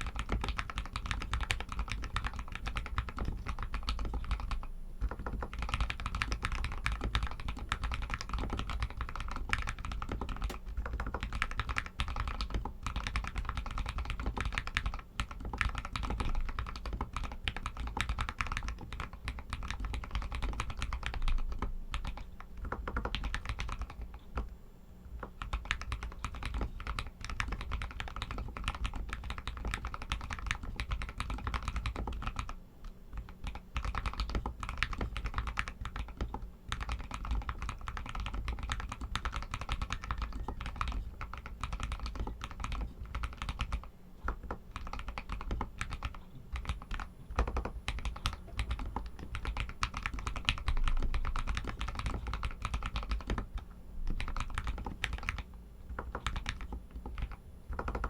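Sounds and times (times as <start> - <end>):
mechanical keyboard typing: 0.0 - 24.5, 25.2 - 58.0.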